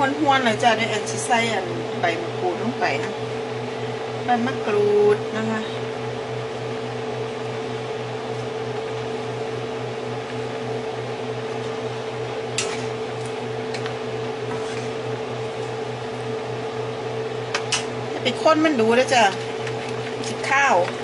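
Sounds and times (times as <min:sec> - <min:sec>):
electric fan humming: 0:00.0 - 0:21.0.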